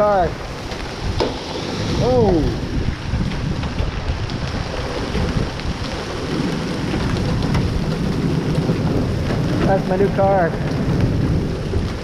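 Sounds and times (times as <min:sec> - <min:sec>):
deep rumble: 0:00.0 - 0:12.0
hailstones striking: 0:00.0 - 0:12.0
heavy rain: 0:00.0 - 0:12.0.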